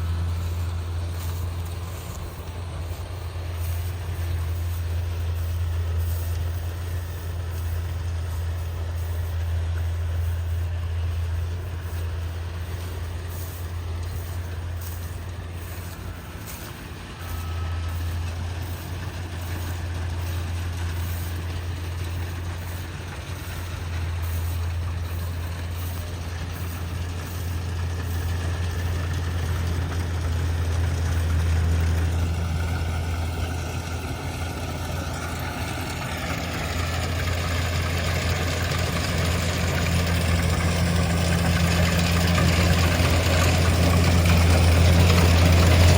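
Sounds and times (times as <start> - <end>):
combine harvester diesel engine hum: 0.0 - 45.9
high whining tones: 0.0 - 45.9.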